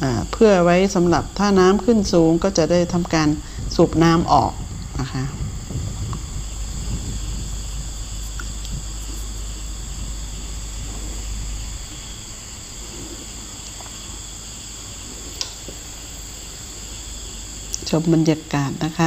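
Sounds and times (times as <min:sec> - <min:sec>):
low rumble: 0:00.0 - 0:17.9
insect chorus buzzing: 0:00.0 - 0:19.0.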